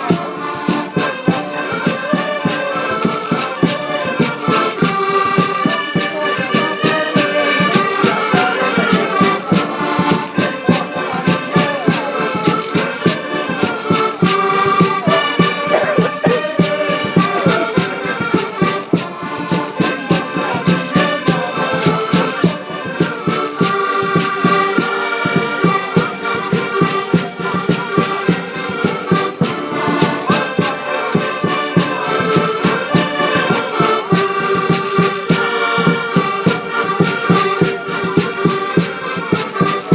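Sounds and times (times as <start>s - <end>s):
folk band with accordion: 0.0s - 39.9s.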